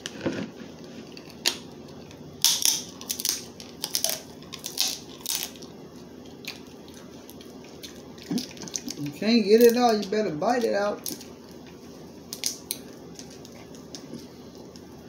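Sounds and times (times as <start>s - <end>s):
crab shells cracking: 1.2s - 11.7s, 12.3s - 14.9s.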